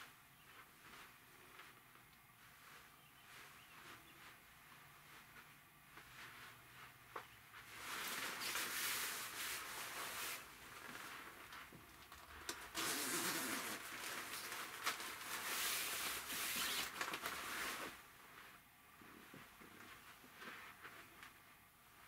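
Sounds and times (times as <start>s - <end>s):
jacket fabric rustling: 0.0s - 22.0s.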